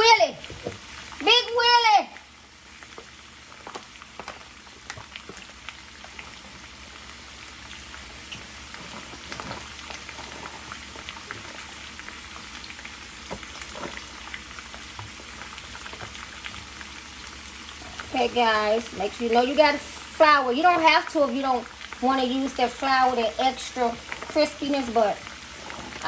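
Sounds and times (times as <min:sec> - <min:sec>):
hot oil sizzling and popping: 0:00.0 - 0:26.0.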